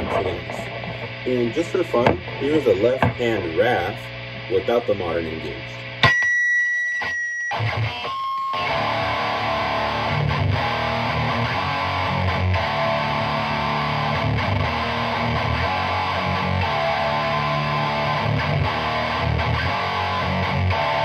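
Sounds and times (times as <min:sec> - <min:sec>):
distorted electric guitar chords: 0:00.0 - 0:21.0.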